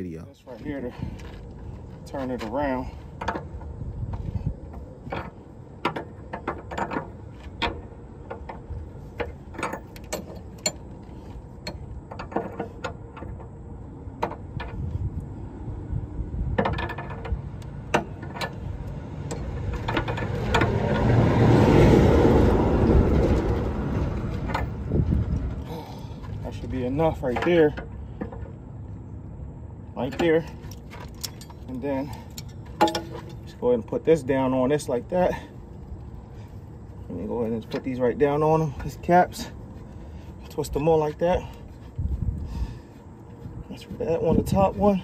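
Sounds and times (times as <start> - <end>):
passing road traffic: 0.0 - 45.0.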